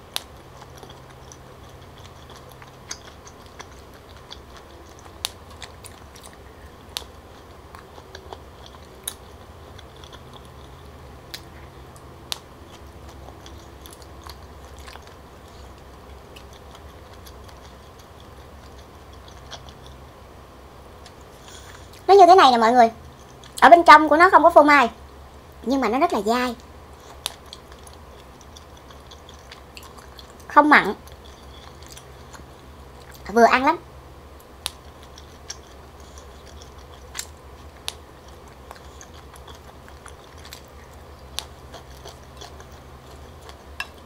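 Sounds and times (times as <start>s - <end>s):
chewing chewy rice cakes: 0.0s - 44.0s
steady low hum: 0.0s - 44.0s.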